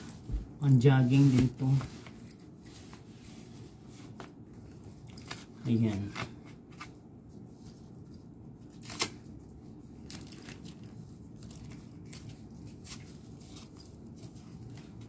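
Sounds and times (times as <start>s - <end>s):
fabric strap rustling: 0.0s - 15.0s.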